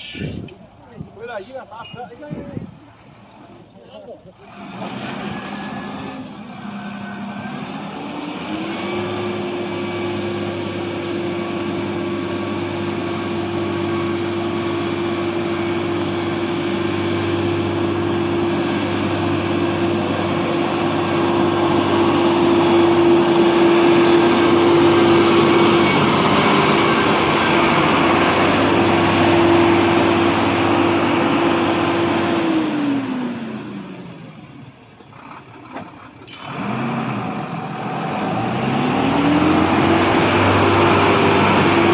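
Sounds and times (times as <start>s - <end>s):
diesel truck engine revving: 4.3s - 41.9s.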